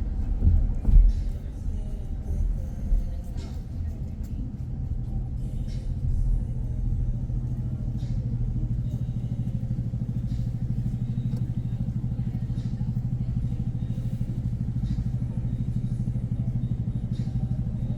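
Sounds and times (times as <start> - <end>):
vehicle engine idling: 0.0 - 17.9.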